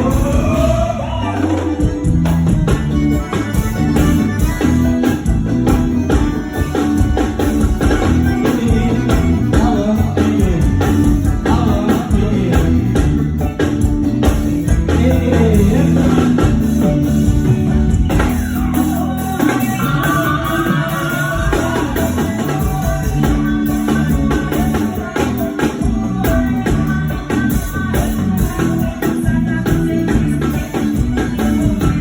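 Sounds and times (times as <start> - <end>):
person singing: 0.0 - 5.3, 6.1 - 13.6, 14.6 - 32.0
bass line: 0.0 - 32.0
drums: 0.0 - 32.0
electronic keyboard: 0.0 - 32.0.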